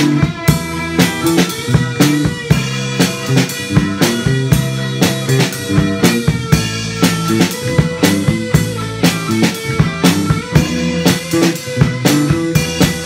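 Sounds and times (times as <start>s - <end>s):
bass drum and snare beating: 0.0s - 13.0s
electric guitars playing: 0.0s - 13.0s.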